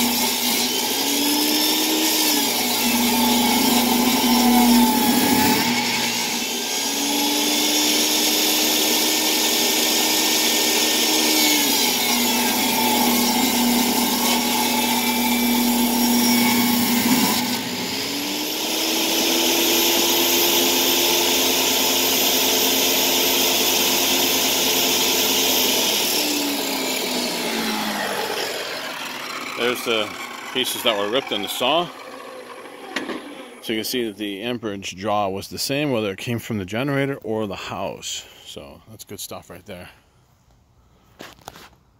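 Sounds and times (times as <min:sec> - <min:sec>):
table saw cutting a board: 0:00.0 - 0:34.2.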